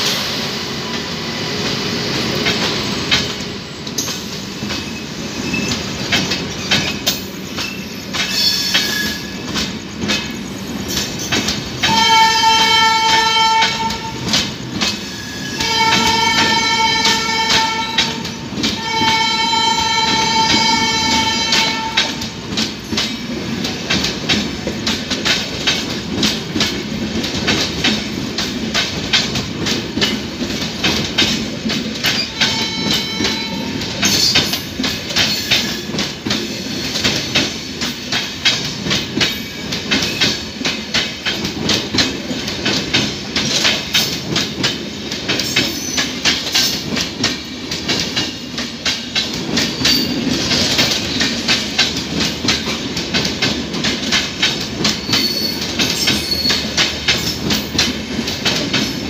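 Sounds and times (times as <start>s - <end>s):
train rumble: 0.0s - 59.0s
train wheels clickety-clack: 0.0s - 59.0s.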